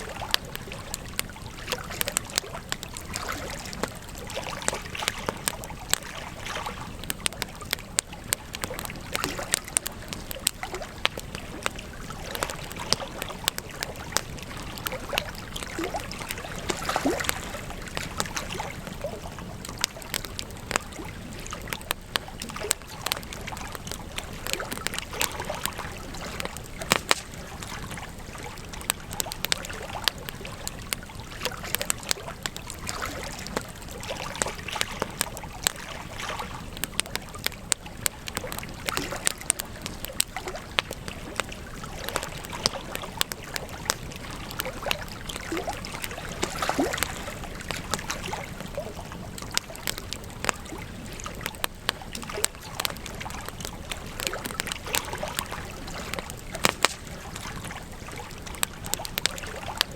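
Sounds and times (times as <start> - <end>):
campfire crackling and popping: 0.0 - 59.9
fire burning hiss: 0.0 - 59.9.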